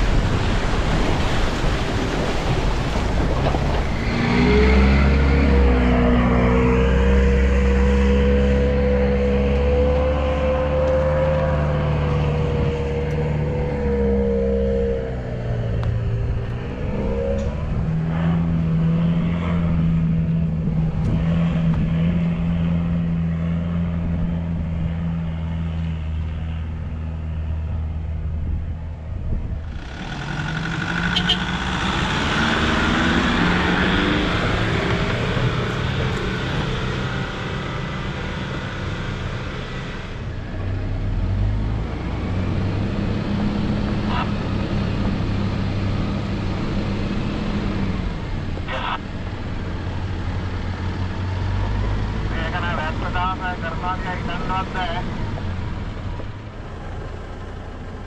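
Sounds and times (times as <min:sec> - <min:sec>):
engine drone: 0:00.0 - 0:58.0
vehicle driving past: 0:02.2 - 0:28.6, 0:29.4 - 0:58.0.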